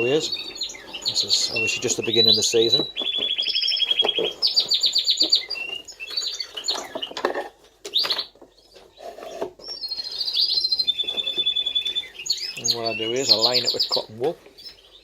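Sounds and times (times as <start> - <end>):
canaries singing trills: 0.0 - 15.0.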